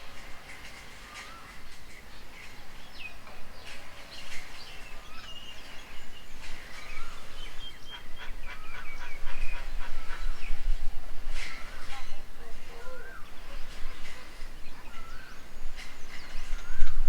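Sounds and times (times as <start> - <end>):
birds chirping and whistling: 0.1 - 17.0.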